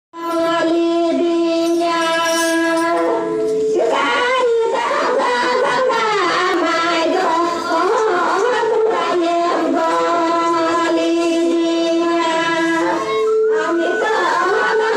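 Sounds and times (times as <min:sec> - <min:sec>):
person singing: 0:00.2 - 0:14.9.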